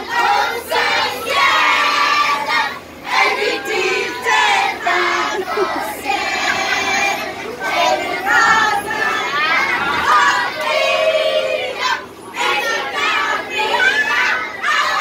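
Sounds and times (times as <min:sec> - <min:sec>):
children singing: 0:00.0 - 0:15.0.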